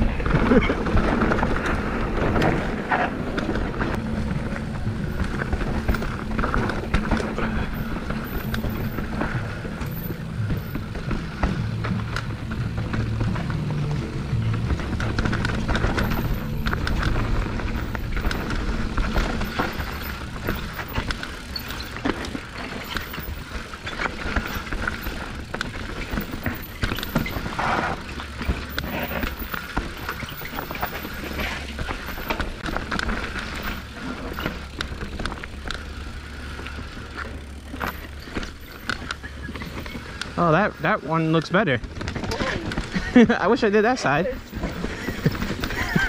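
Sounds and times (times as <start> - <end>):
bike clattering over rocks: 0.0 - 46.0.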